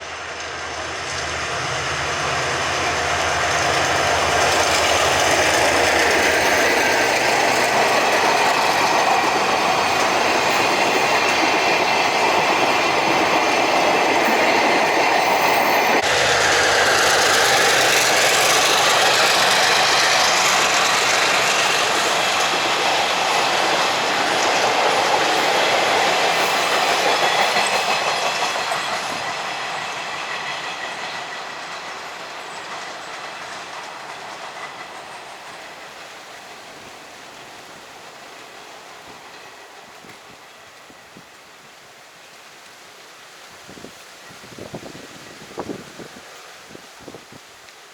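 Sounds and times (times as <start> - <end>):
diesel locomotive hum: 0.0 - 42.6
freight wagons clickety-clack: 0.2 - 41.5.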